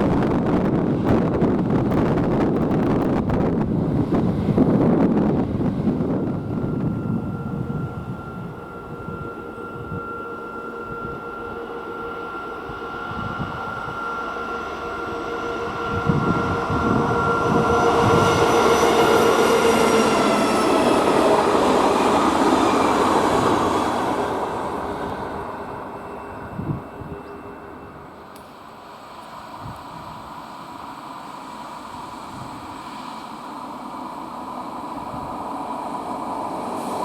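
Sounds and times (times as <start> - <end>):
train passing: 0.0 - 37.0
whining train drive: 0.0 - 37.0.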